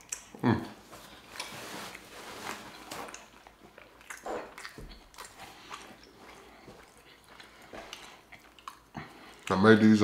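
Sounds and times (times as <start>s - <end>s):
wet chewing and mouth smacks: 0.0s - 9.8s.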